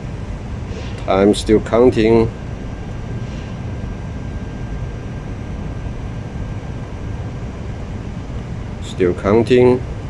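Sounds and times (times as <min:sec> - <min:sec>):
microwave oven hum: 0:00.0 - 0:10.0
thin high whine: 0:00.0 - 0:10.0.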